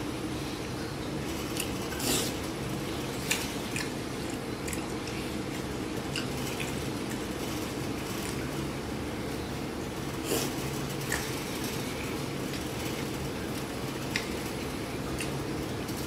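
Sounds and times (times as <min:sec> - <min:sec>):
steady low hum: 0:00.0 - 0:16.0
wet chewing: 0:01.4 - 0:08.6, 0:10.2 - 0:16.0.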